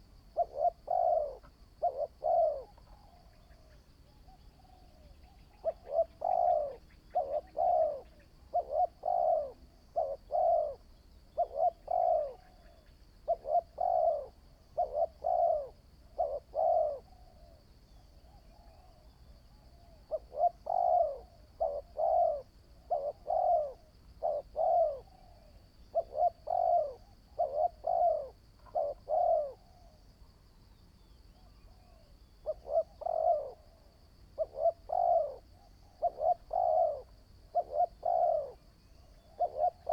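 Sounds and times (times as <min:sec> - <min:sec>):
dove cooing: 0:00.0 - 0:30.0, 0:31.4 - 0:39.9.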